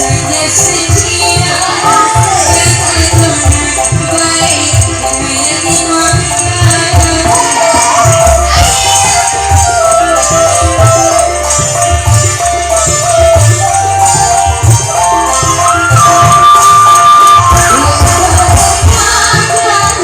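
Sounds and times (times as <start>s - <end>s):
steady drum beat: 0.0s - 10.0s, 12.1s - 20.0s
instrumental melody line: 0.0s - 20.0s.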